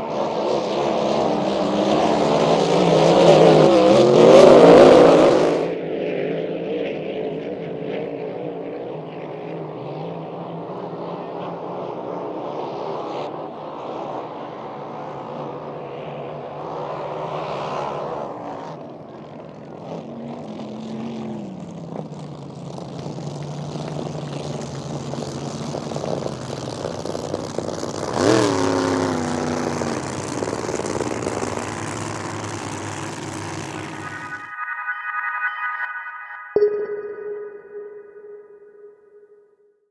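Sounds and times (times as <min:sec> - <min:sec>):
racing boat engines: 0:00.0 - 0:34.6.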